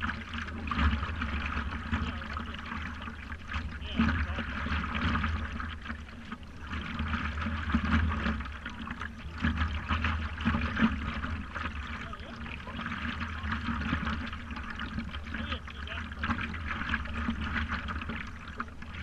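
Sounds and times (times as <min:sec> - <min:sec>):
water lapping against paddleboard: 0:00.0 - 0:19.0.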